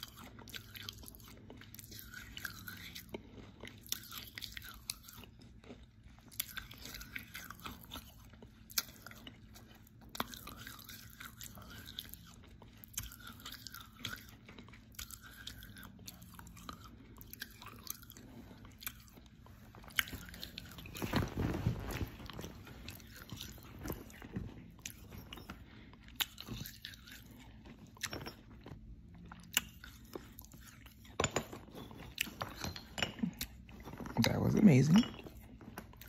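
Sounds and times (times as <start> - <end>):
person chewing crunchy food: 0.0 - 36.0.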